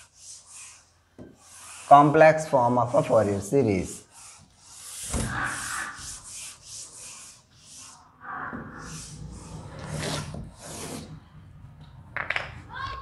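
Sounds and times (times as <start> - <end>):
duster rubbing on chalkboard: 0.0 - 11.3.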